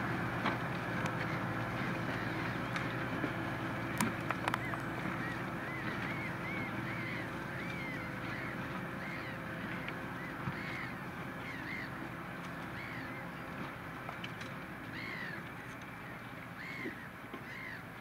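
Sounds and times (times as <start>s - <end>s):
tractor diesel engine under load: 0.0s - 16.5s
bird calling: 0.1s - 18.0s.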